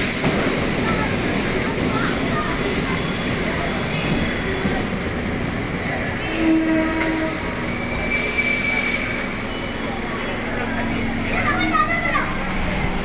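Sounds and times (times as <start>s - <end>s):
train running on rails: 0.0s - 13.0s
train wheels squealing: 0.0s - 13.0s.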